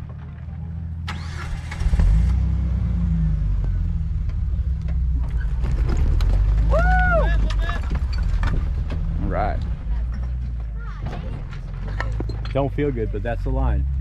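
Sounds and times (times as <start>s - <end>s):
engine low rumble under load: 0.0s - 14.0s.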